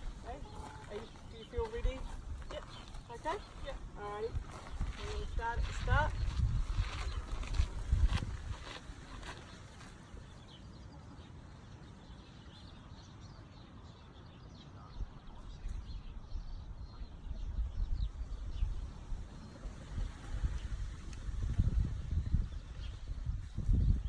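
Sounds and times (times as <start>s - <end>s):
wind rumble on microphone: 0.0s - 11.2s, 14.8s - 24.0s.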